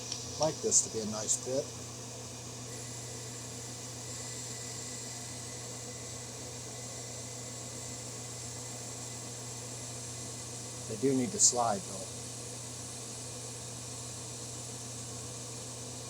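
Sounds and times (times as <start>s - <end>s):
machine shop hum and hiss: 0.0s - 16.0s.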